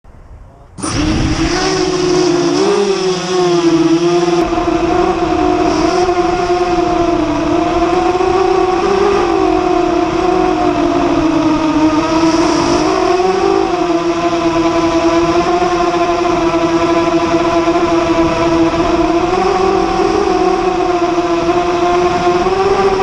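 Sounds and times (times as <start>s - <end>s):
quadcopter propellers whining: 0.3s - 23.0s.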